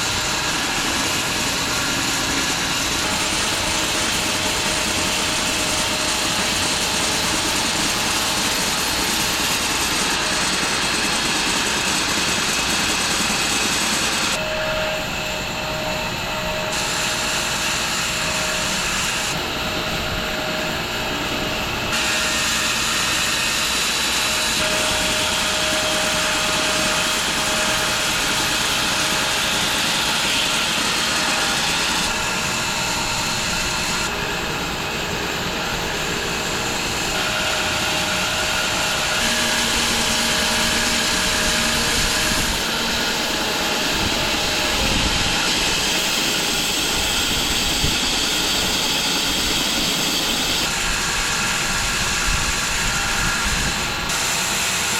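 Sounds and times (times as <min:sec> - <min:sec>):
bandsaw mill sawing log: 0:00.0 - 0:54.9.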